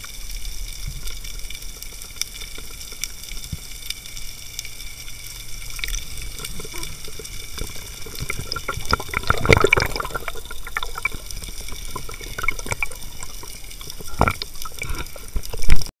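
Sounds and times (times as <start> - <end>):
underwater crackling clicks: 0.0 - 15.9
underwater hiss: 0.0 - 15.9.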